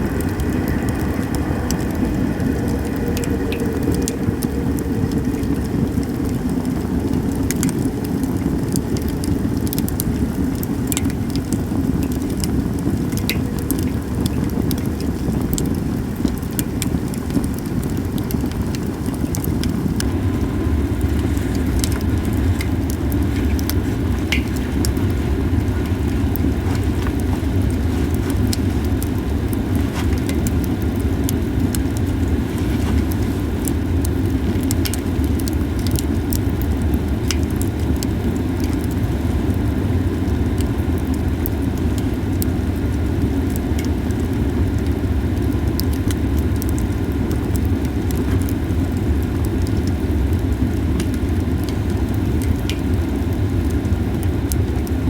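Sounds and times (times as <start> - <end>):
firewood crackling and popping: 0.0 - 55.0
steady low rumble: 0.0 - 55.0.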